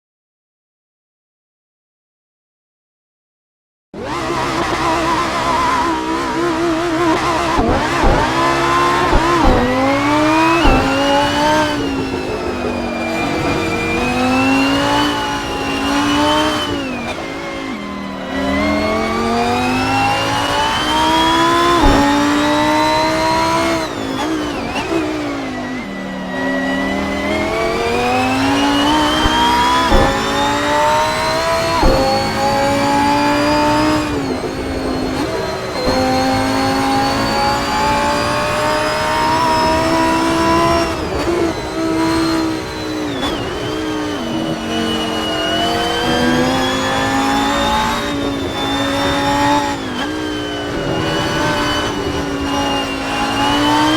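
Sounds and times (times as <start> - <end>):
sports car engine accelerating: 4.0 - 53.9.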